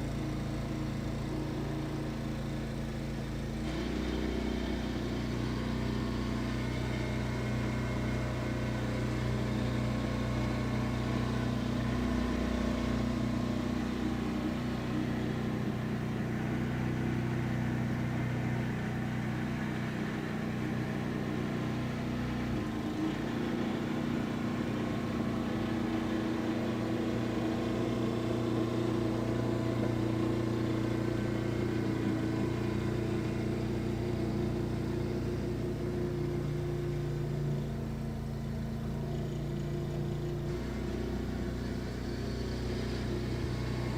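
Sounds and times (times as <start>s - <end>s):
snow blower engine running: 0.0s - 43.9s.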